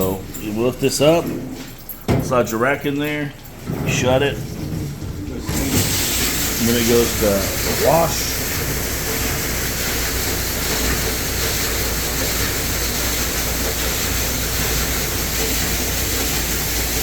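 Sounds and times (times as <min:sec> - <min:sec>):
wash pump humming: 0:00.0 - 0:17.0
dishwasher spraying water: 0:03.3 - 0:17.0.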